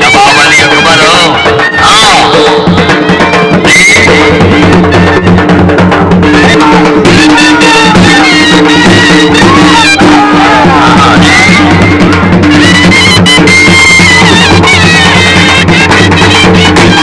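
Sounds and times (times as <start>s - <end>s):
dhol drums beating: 0.0s - 17.0s.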